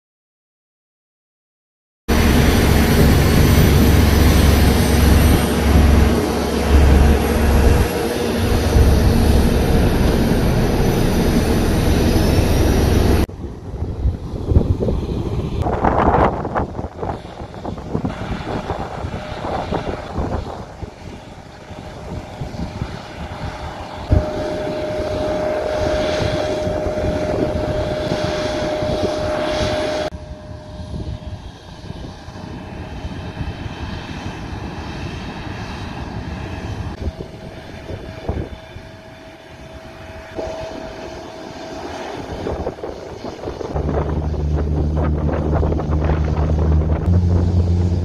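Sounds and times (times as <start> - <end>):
jet airliner whine: 2.1 - 48.0
wind buffeting microphone: 2.1 - 48.0.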